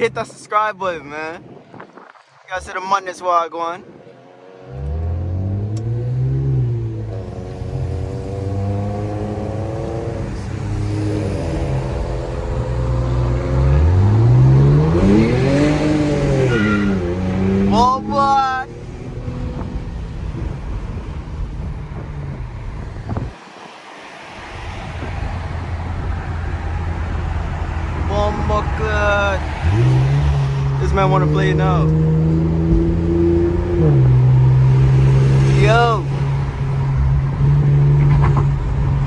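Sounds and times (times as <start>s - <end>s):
car exhaust accelerating hard: 4.7s - 23.4s, 24.4s - 39.0s.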